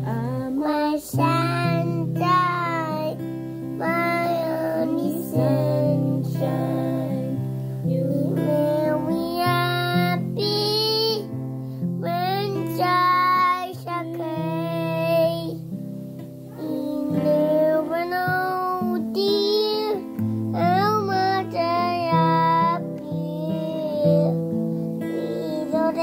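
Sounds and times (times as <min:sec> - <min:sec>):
boy singing: 0:00.0 - 0:11.4, 0:12.0 - 0:15.6, 0:16.5 - 0:24.4, 0:25.0 - 0:26.0
acoustic guitar chords: 0:00.0 - 0:26.0.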